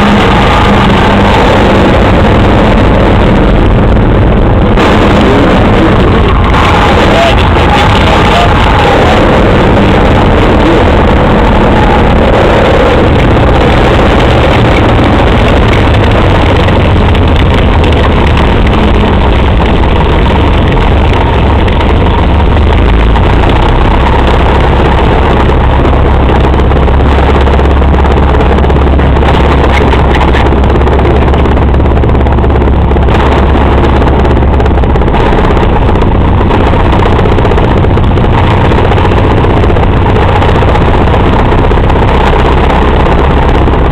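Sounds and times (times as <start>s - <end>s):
propeller plane engine running: 0.0s - 43.9s.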